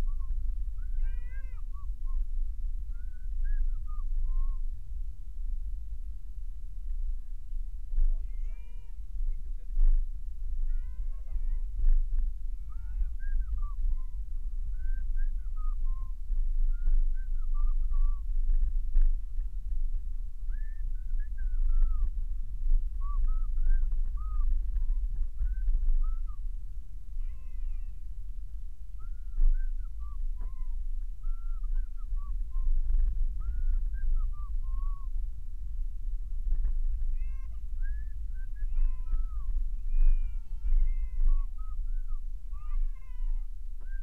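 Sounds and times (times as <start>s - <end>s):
car driving rumble: 0.0s - 44.0s.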